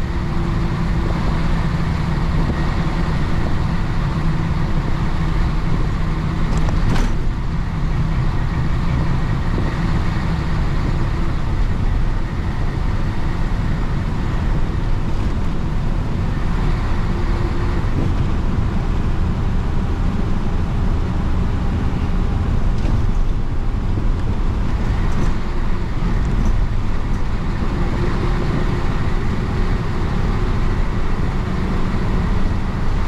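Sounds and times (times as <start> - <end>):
diesel bus engine running: 0.0 - 33.0
road noise: 0.0 - 33.0.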